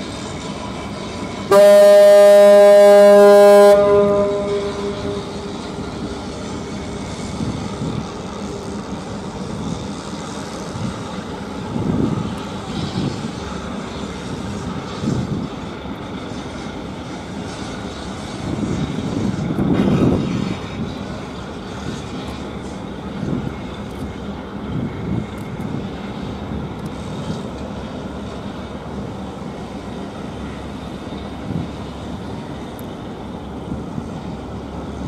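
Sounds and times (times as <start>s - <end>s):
ship engines rumbling: 0.0s - 35.0s
ship wash: 0.0s - 35.0s.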